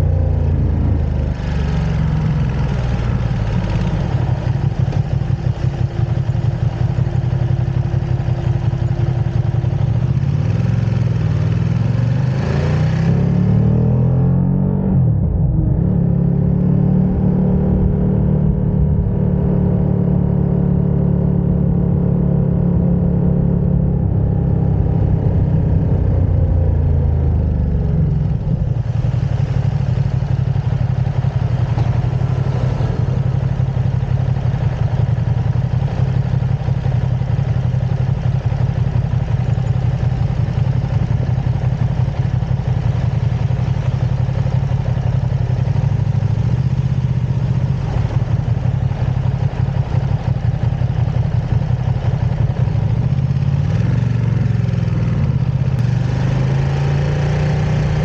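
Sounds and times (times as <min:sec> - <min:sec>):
motorcycle engine idling: 0:00.0 - 0:13.1, 0:24.0 - 0:58.0.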